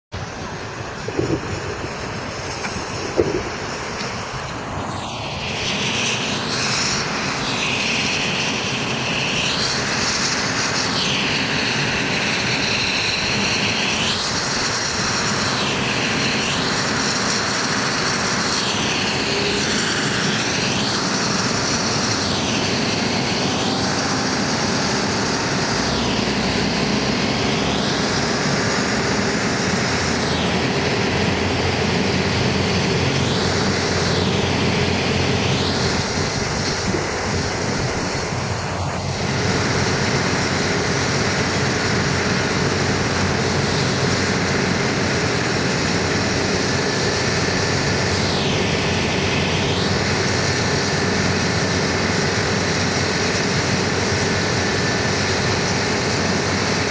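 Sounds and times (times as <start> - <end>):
helicopter turbine and rotor roar: 0.1 - 56.9.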